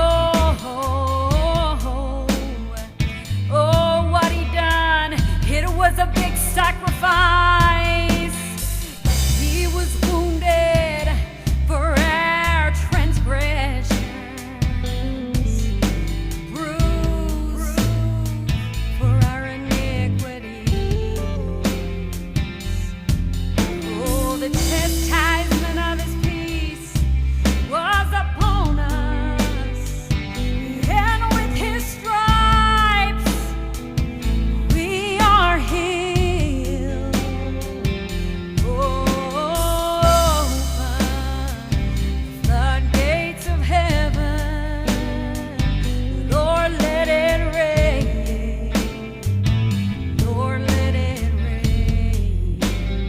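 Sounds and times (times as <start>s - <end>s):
woman singing with vibrato: 0.0s - 23.0s, 23.6s - 33.8s, 34.5s - 38.0s, 38.6s - 49.3s, 50.2s - 52.9s
band with drums and bass: 0.0s - 53.0s.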